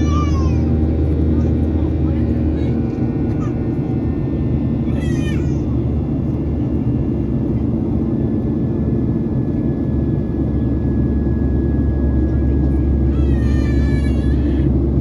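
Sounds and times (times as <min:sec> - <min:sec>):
airplane cabin engine rush: 0:00.0 - 0:15.0.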